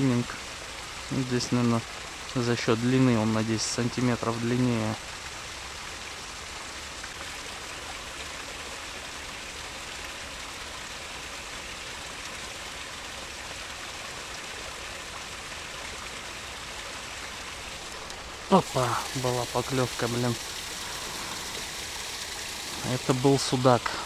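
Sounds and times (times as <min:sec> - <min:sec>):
water rushing into a pond: 0:00.0 - 0:24.0.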